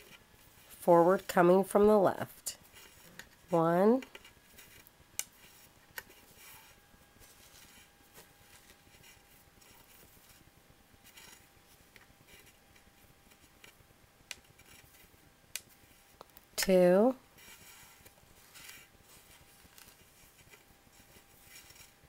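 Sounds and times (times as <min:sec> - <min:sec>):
faint steady hum: 0:00.0 - 0:22.0
strings rustling and scraping: 0:02.5 - 0:22.0.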